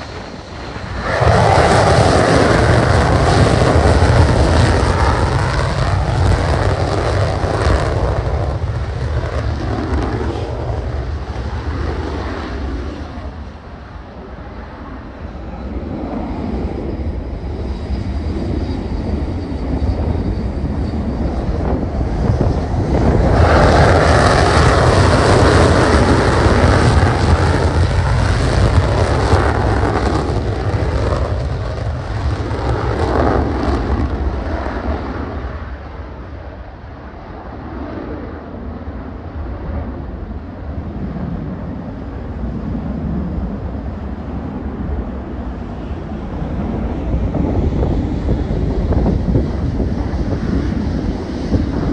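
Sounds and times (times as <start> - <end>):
jet engine roaring: 0.0 - 51.9.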